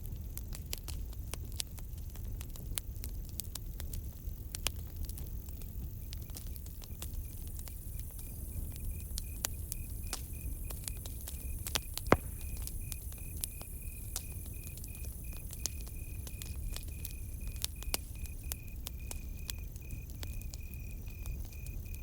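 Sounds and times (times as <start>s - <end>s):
campfire crackling and popping: 0.0s - 22.0s
cricket chirping: 4.2s - 22.0s.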